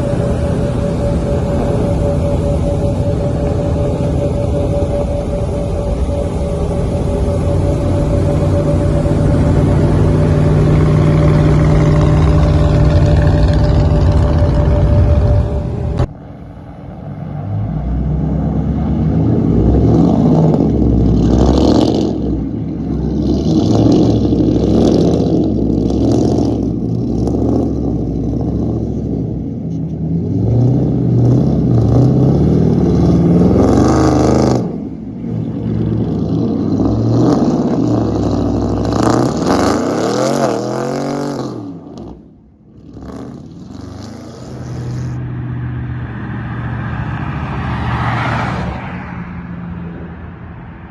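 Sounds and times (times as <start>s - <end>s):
pickup truck exhaust revving: 0.0s - 48.1s.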